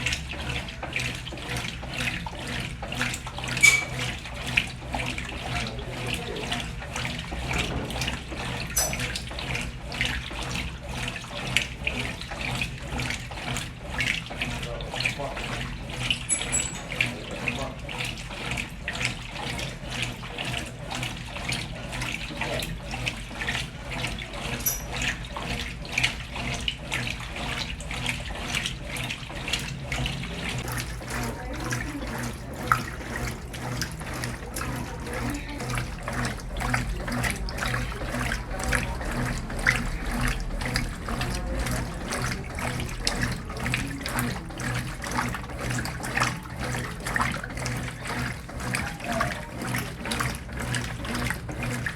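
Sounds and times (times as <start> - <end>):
washing machine motor hum: 0.0 - 51.9
water splashing in washing machine: 0.0 - 51.9.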